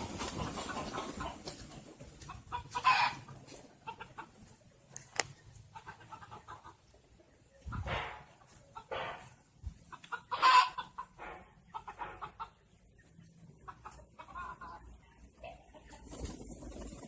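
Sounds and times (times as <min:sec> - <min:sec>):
chicken clucking: 0:00.0 - 0:17.0.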